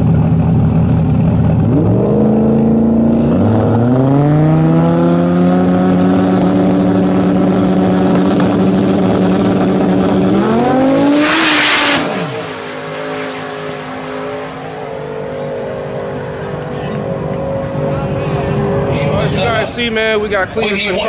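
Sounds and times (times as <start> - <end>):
cars launching and pulling away: 0.0 - 20.6
race car engines revving: 0.0 - 21.0.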